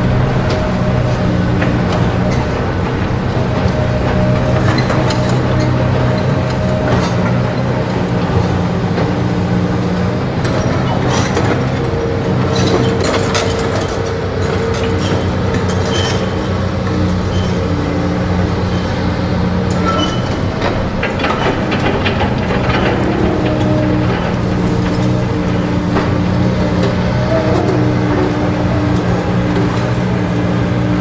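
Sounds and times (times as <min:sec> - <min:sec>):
metallic clanks and knocks: 0:00.0 - 0:30.9
heavy vehicle engine running: 0:00.0 - 0:31.0.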